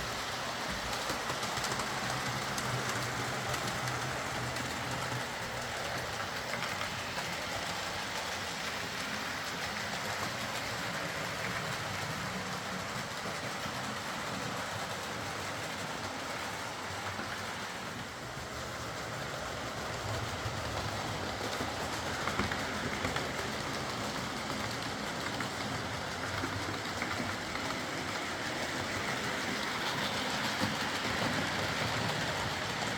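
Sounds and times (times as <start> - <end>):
model locomotive running on track: 0.0 - 32.9.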